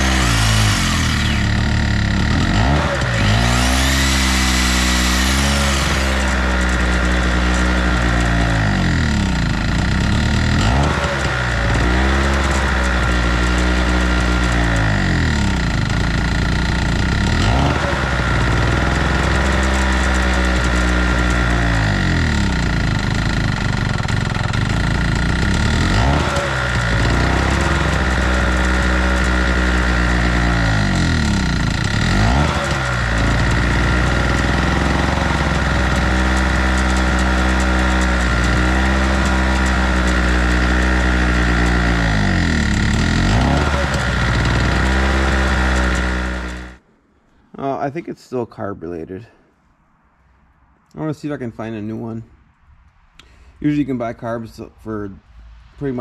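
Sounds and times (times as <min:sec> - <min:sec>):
generator engine surging: 0:00.0 - 0:46.8.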